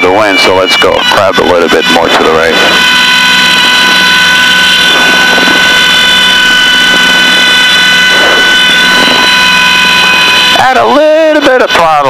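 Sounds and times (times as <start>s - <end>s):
aircraft engines droning: 0.0s - 12.0s
high warning horn tone: 0.0s - 12.0s.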